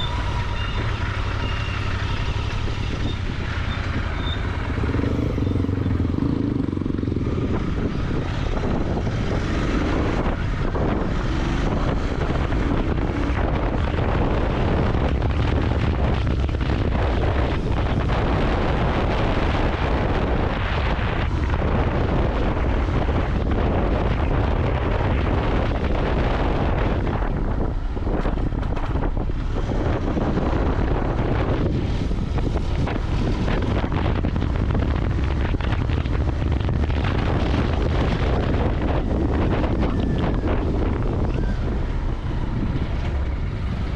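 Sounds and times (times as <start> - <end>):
motorcycle engine running: 0.0 - 43.9
wind over microphone: 0.0 - 43.9.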